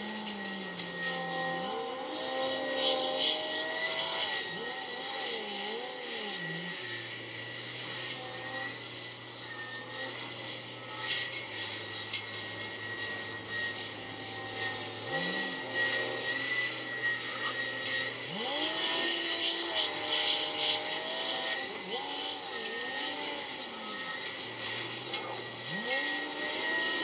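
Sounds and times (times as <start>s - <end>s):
steady high whine: 0.0s - 27.0s.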